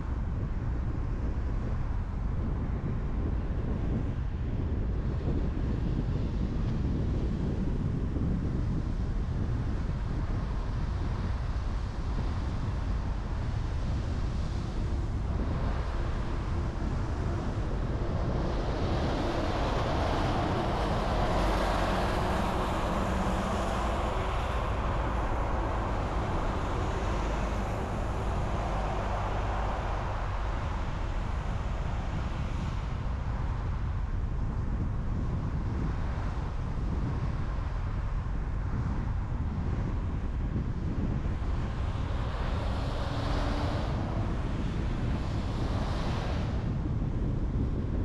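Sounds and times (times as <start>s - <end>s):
car tyre and wind noise: 0.0s - 48.0s.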